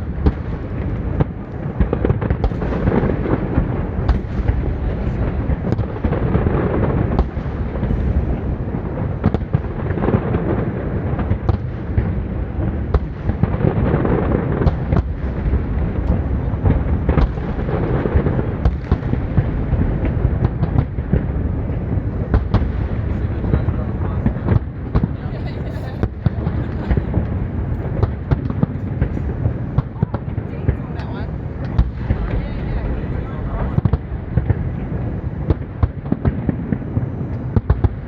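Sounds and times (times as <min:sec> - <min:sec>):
booming firework bursts: 0:00.0 - 0:38.0
firework cracks: 0:00.0 - 0:38.0.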